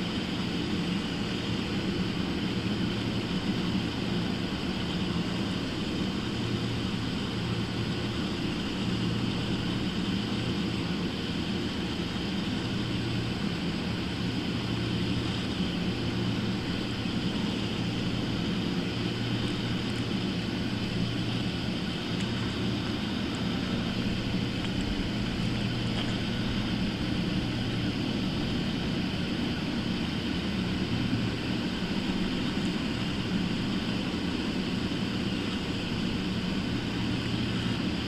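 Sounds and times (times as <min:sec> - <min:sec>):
low mechanical drone: 0:00.0 - 0:38.0.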